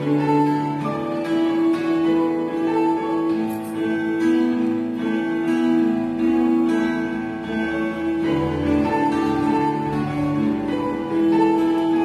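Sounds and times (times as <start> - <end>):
acoustic guitar strummed chords: 0.0 - 12.0
electronic keyboard sustained notes: 0.0 - 12.0.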